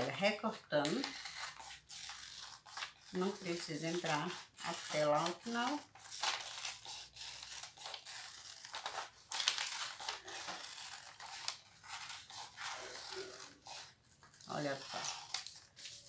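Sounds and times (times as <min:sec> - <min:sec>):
scissors snipping paper: 0:00.0 - 0:16.0
stiff paper rustling: 0:00.0 - 0:16.0.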